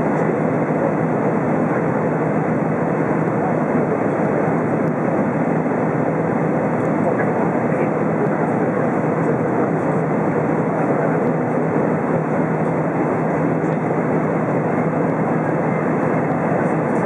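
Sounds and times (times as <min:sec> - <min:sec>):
airplane cabin engine rush: 0:00.0 - 0:17.0.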